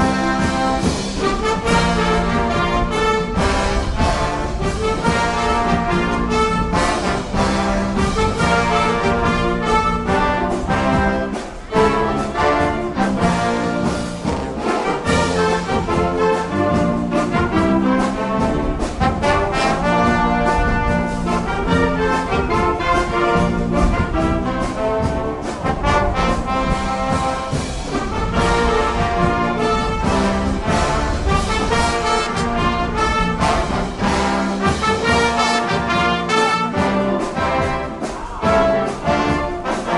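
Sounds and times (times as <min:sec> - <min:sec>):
driving drum beat: 0:00.0 - 0:39.9
trumpets and trombones: 0:00.0 - 0:39.9.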